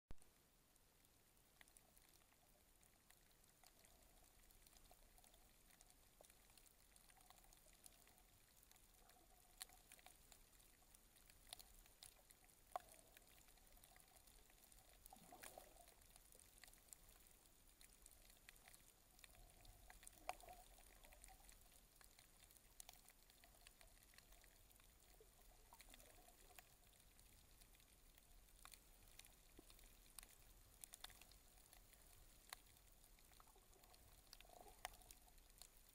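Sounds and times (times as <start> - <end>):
low underwater hiss: 0.2 - 35.9
soft water swishes: 0.2 - 35.9
underwater clicks and crackles: 0.2 - 35.9.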